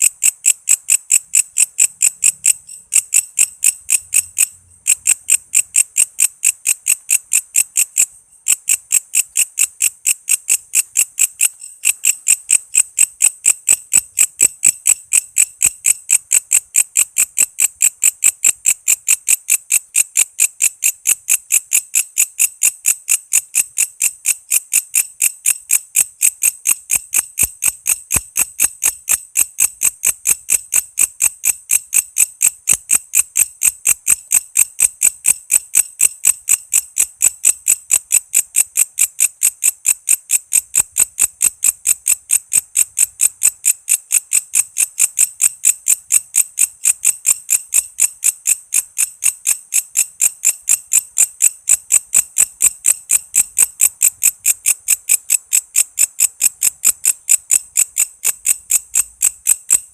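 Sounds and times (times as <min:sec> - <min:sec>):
insect chirping: 0:00.0 - 0:59.9.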